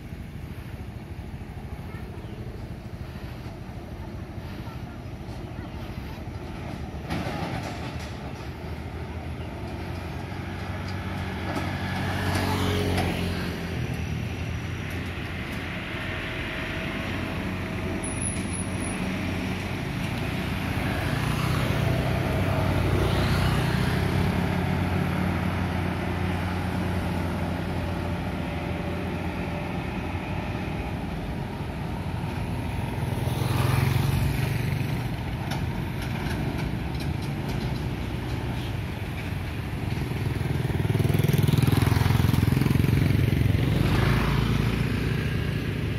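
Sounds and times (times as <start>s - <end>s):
motorcycles and trucks passing: 0.0s - 45.9s.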